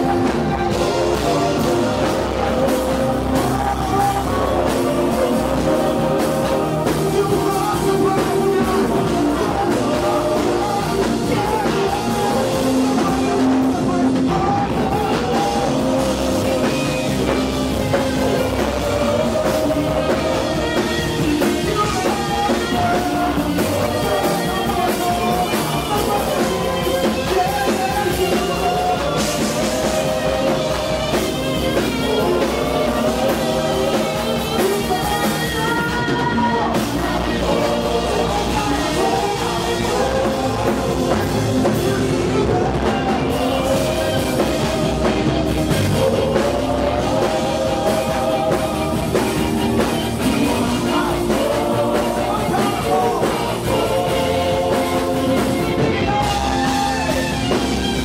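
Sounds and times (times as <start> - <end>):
band with drums: 0.0 - 58.0
singers singing together: 0.0 - 58.0.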